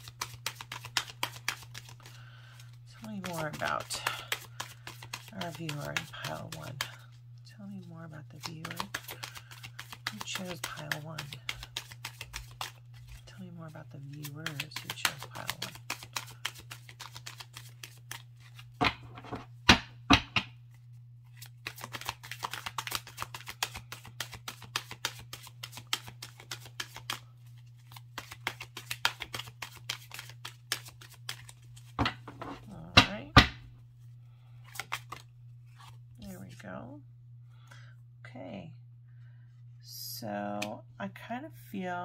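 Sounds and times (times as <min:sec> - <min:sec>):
cards being shuffled: 0:00.0 - 0:33.4, 0:34.4 - 0:36.6.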